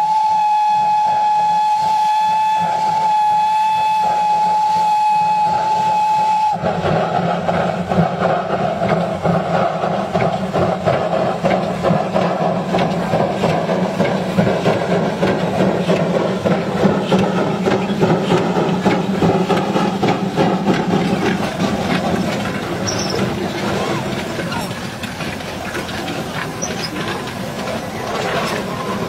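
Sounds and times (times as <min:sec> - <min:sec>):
steam locomotive running: 0:00.0 - 0:29.0
wagons clanking and rattling on track: 0:01.4 - 0:29.0.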